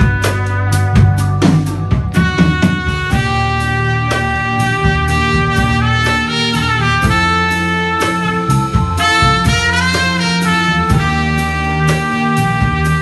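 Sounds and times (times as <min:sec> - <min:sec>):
drum kit keeping time: 0:00.0 - 0:13.0
low bass notes: 0:00.0 - 0:13.0
trumpet melody: 0:00.0 - 0:13.0.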